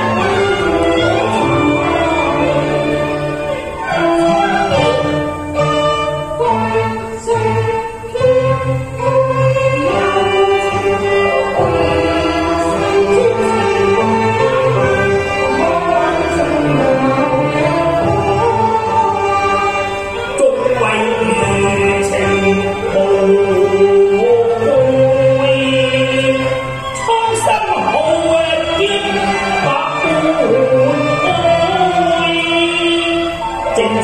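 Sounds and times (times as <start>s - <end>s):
instrumental accompaniment: 0.0s - 34.0s
opera singing: 0.0s - 34.0s.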